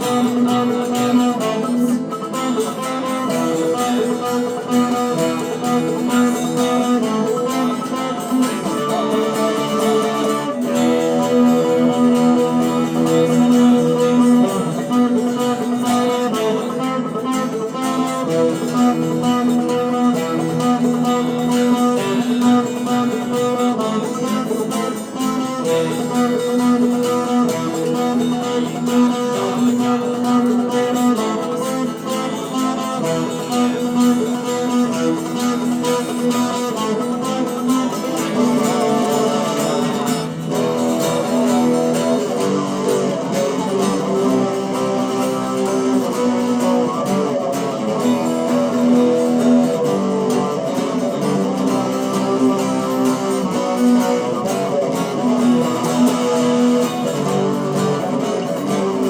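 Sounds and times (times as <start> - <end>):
electric guitar playing rock: 0.0 - 59.0.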